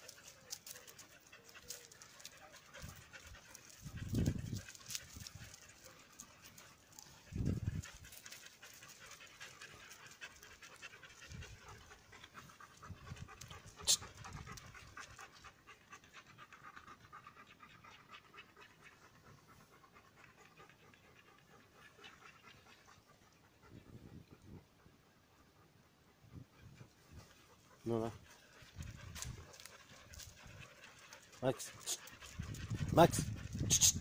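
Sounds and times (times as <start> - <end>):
dogs panting: 0.0 - 34.0.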